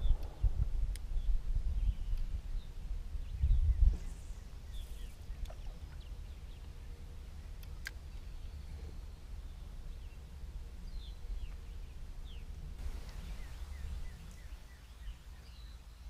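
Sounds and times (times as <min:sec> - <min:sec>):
songbirds calling: 0:00.0 - 0:16.0
wind rumble on microphone: 0:00.0 - 0:16.0.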